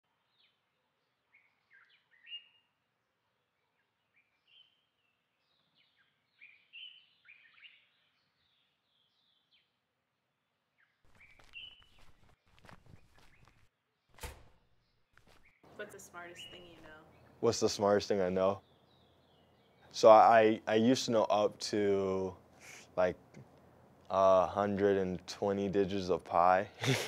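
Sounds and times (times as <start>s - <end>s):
faint birdsong: 0.1s - 26.9s.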